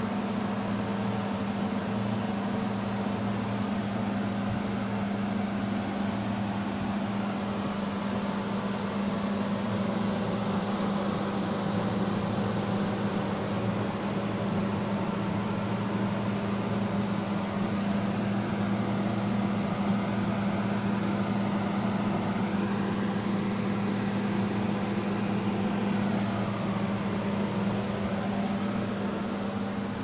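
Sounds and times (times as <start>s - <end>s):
machine hum with hiss: 0.0s - 30.0s.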